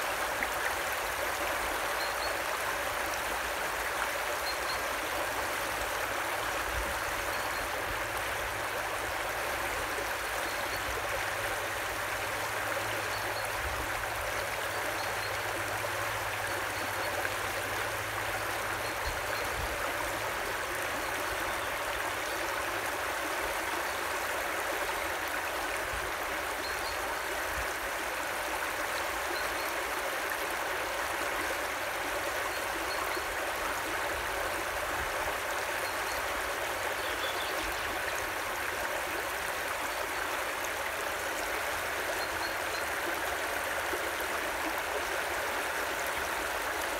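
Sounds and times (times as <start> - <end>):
river water rushing and trickling: 0.0 - 46.9.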